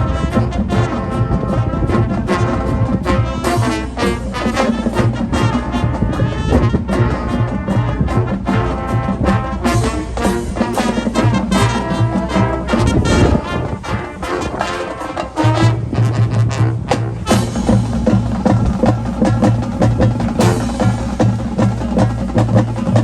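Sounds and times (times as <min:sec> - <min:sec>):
drumline percussion: 0:00.0 - 0:23.0
marching band brass: 0:00.0 - 0:23.0.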